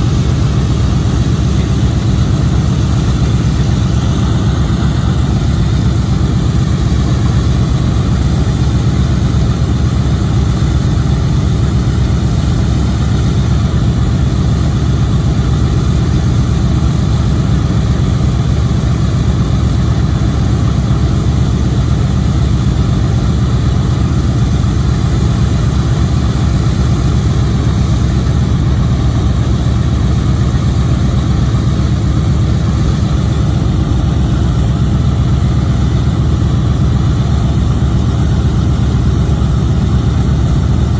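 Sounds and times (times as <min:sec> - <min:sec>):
radial aircraft engines idling: 0:00.0 - 0:40.9.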